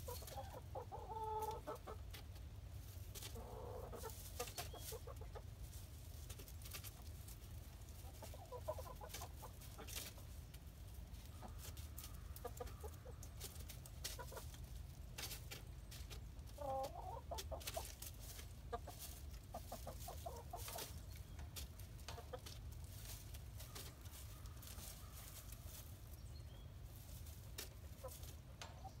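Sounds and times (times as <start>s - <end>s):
hens clucking softly: 0.0s - 29.0s.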